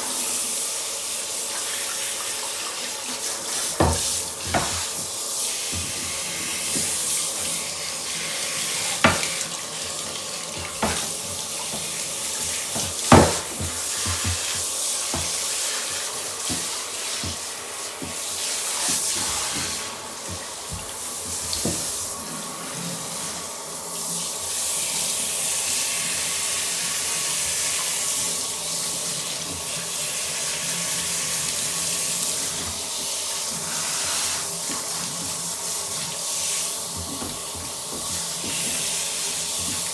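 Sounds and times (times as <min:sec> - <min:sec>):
water running from tap: 0:00.0 - 0:39.9.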